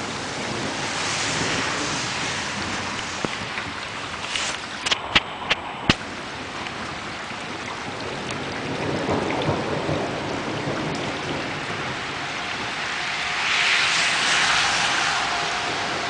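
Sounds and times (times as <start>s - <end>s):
low rumble of thunder: 0.0s - 4.1s, 6.0s - 16.0s
steady rain: 0.0s - 16.0s.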